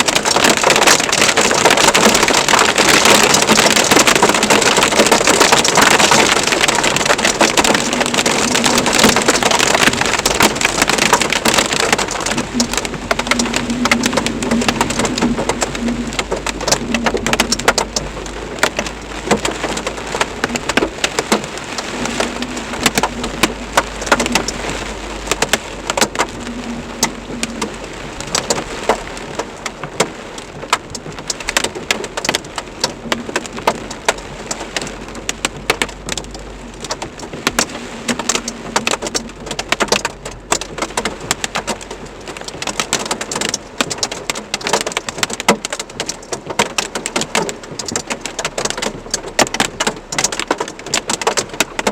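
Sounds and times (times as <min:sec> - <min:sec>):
hail pelting surfaces: 0:00.0 - 0:51.9
heavy rain: 0:00.0 - 0:51.9.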